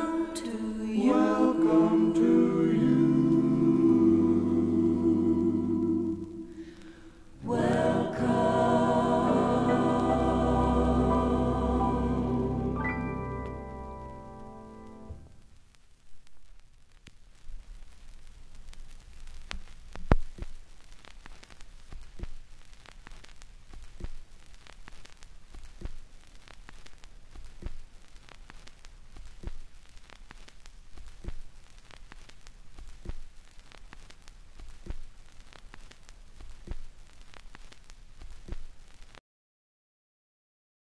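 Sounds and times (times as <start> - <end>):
vinyl hiss and crackle: 0.0 - 39.2.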